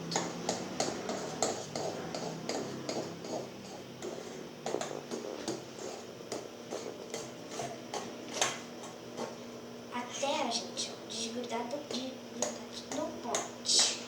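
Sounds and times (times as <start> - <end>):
spoon stirring slime in pot: 0.0 - 9.5, 11.5 - 14.0.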